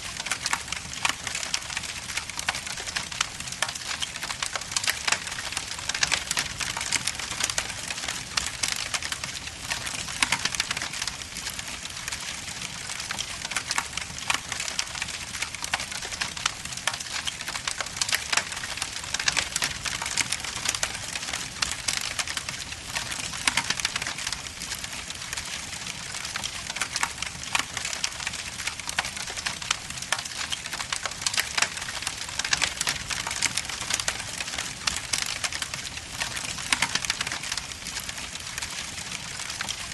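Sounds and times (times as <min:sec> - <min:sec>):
logs crackling and popping in fire: 0:00.0 - 0:39.9.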